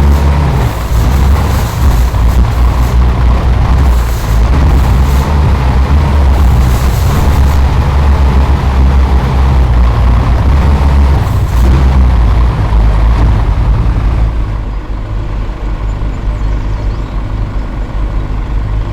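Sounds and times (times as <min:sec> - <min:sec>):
heavy vehicle engine running: 0:00.0 - 0:18.9.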